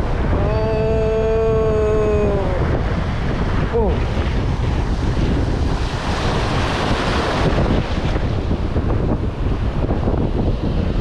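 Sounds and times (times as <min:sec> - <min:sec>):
surf washing over reef: 0:00.0 - 0:11.0
wind buffeting microphone: 0:00.0 - 0:11.0.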